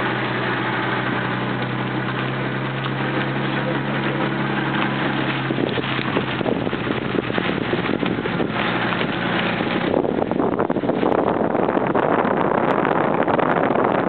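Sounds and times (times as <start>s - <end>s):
car engine running: 0.0s - 14.0s
wind buffeting microphone: 0.0s - 14.0s.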